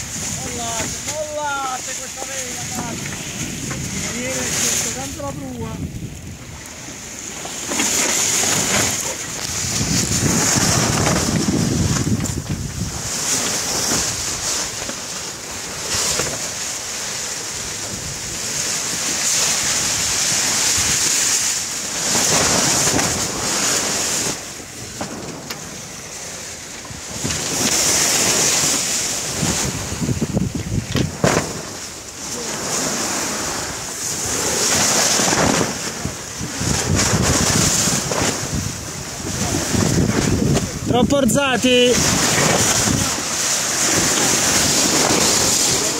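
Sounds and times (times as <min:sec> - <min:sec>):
sea rushing along a hull: 0:00.0 - 0:45.9
wind buffeting microphone: 0:00.0 - 0:45.9.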